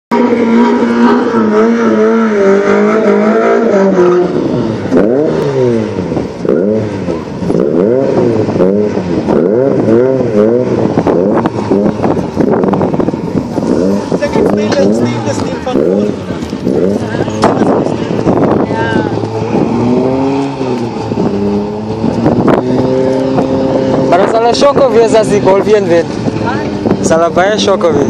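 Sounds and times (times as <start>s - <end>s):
car engines revving: 0.1s - 28.0s.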